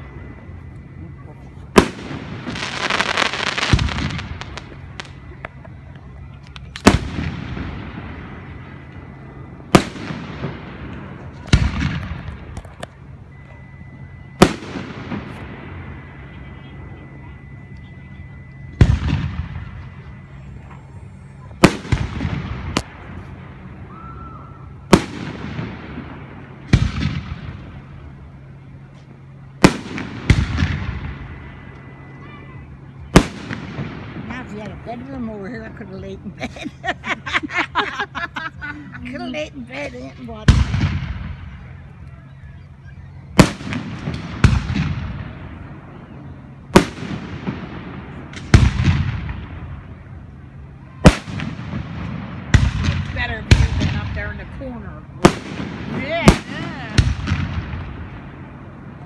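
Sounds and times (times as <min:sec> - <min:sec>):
rolling echo: 0:00.0 - 0:59.0.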